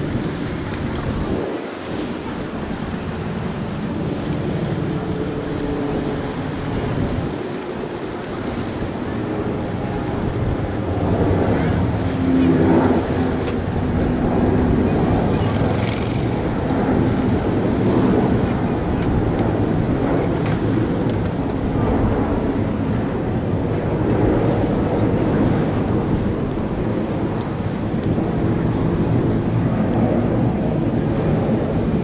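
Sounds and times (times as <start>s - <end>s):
jet engines rumbling: 0.0s - 32.0s
wind buffeting microphone: 0.0s - 32.0s.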